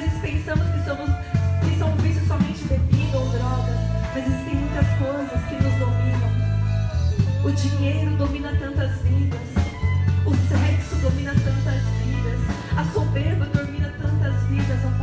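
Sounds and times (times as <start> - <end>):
worship music: 0.0 - 15.0.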